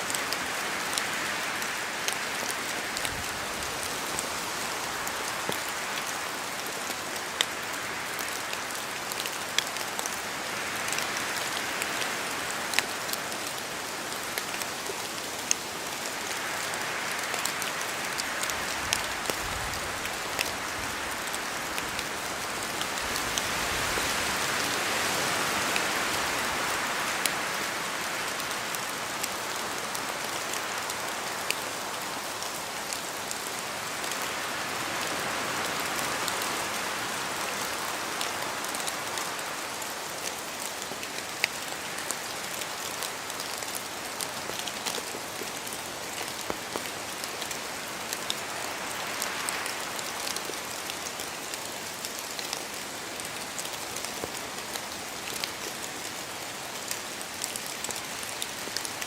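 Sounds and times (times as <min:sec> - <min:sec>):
rain pattering: 0:00.0 - 0:59.0
wind through branches: 0:00.0 - 0:59.0.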